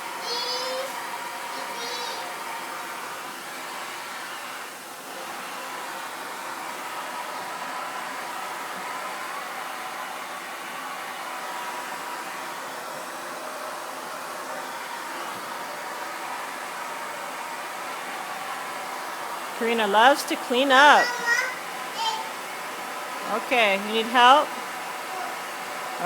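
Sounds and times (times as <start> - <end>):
vacuum cleaner whining: 0.0 - 26.0.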